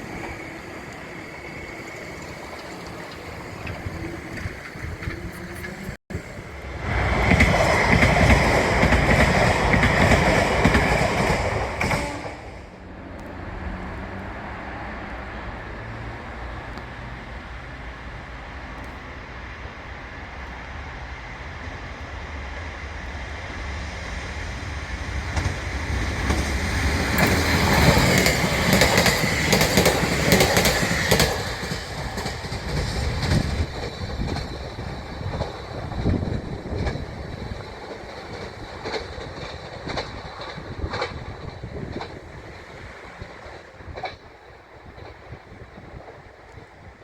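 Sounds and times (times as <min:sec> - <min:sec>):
wheels clacking over rail joints: 0:00.0 - 0:19.6, 0:24.1 - 0:47.0
train rumbling: 0:00.0 - 0:47.0.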